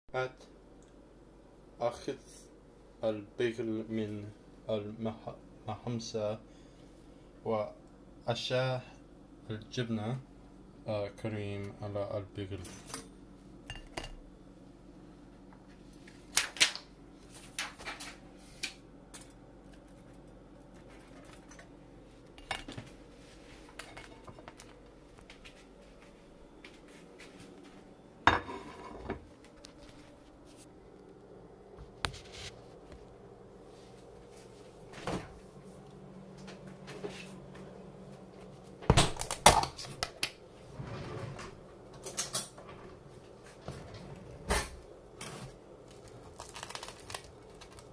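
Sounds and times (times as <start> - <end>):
faint steady hum: 0.1 - 47.9.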